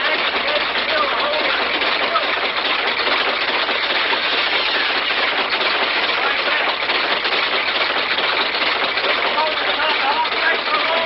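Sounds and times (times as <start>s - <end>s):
motor mechanical clatter: 0.0s - 11.0s.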